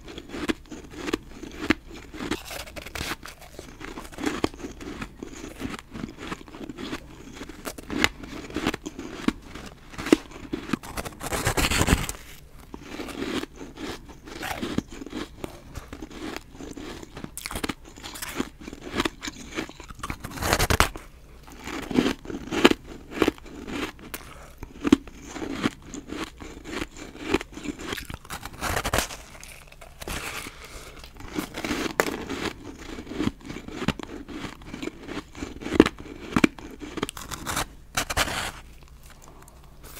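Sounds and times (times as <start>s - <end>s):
person crunching frozen snow: 0.0s - 21.0s, 21.6s - 38.6s.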